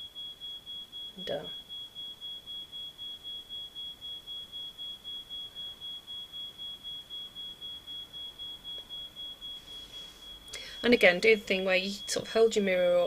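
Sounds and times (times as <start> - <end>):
rapid pulsing electronic beeps: 0.0 - 13.0.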